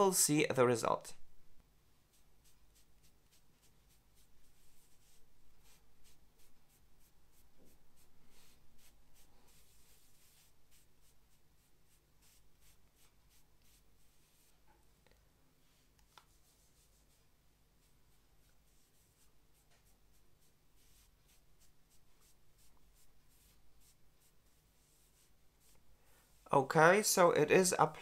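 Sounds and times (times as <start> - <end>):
applicator rubbing on skin: 2.0 - 14.6, 15.8 - 26.6.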